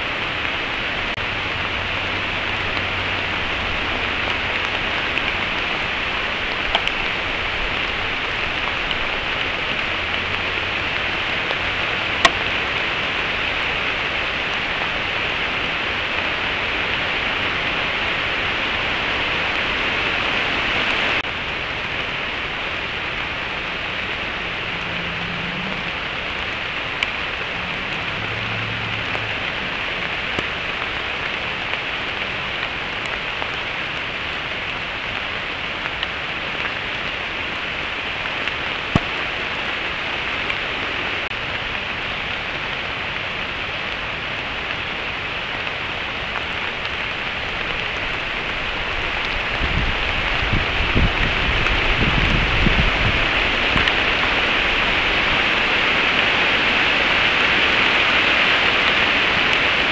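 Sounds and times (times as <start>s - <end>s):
rain falling in woodland: 0.0s - 59.9s.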